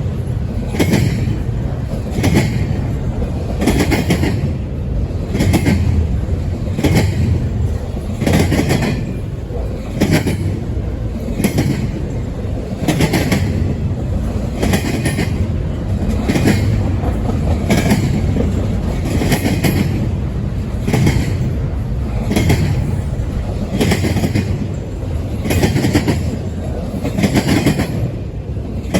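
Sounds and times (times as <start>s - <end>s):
freight train rumbling past: 0.0s - 28.9s
wheels clacking over rail joints: 0.0s - 28.9s.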